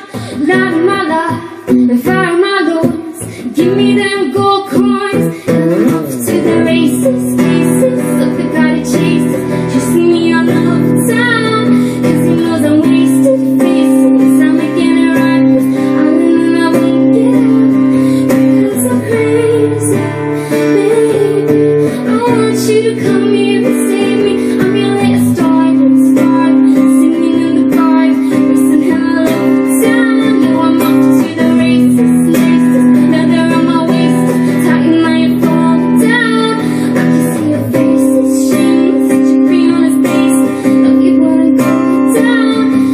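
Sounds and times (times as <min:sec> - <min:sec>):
acoustic guitar strumming: 0:00.0 - 0:42.9
woman singing: 0:00.0 - 0:42.9.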